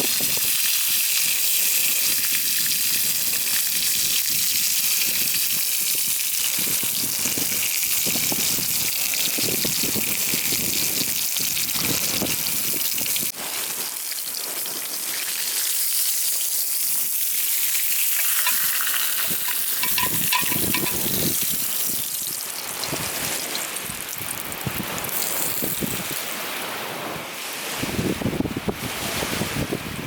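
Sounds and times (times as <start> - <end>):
food sizzling over campfire: 0.0 - 26.9.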